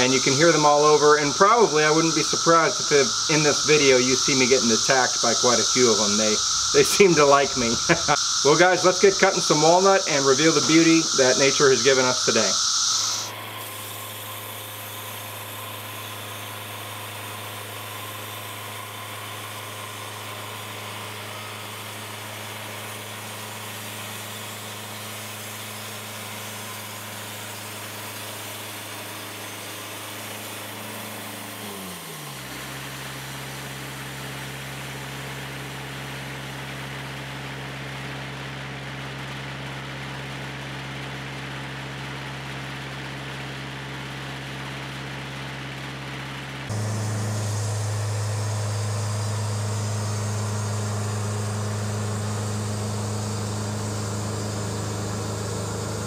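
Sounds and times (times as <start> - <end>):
cicada buzz: 0.0 - 38.2, 46.7 - 56.0
sawmill engine running: 0.0 - 56.0.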